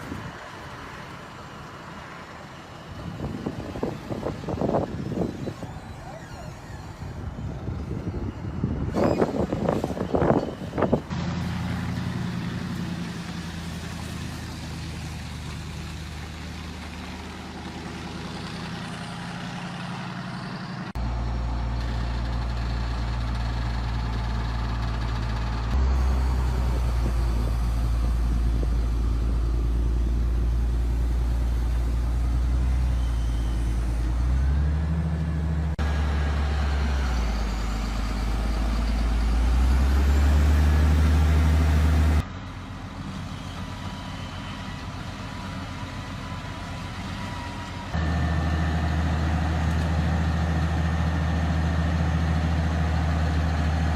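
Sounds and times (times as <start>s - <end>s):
heavy truck engine running: 0.0s - 53.9s.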